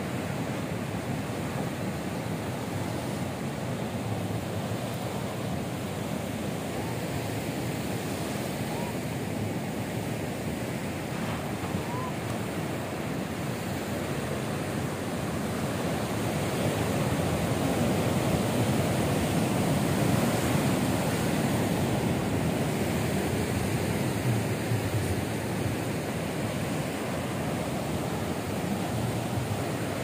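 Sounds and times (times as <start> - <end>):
waves breaking: 0.0 - 30.0.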